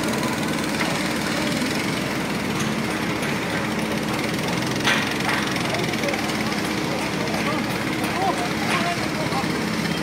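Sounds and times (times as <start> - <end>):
motor running steadily: 0.0 - 10.0.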